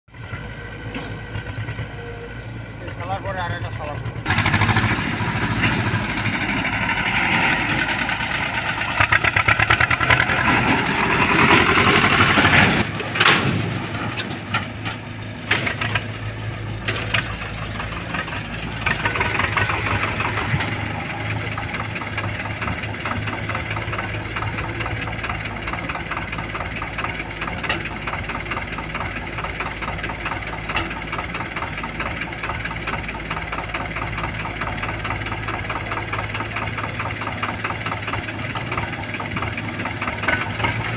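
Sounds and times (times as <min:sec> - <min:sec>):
diesel engines running: 0:00.1 - 0:40.9.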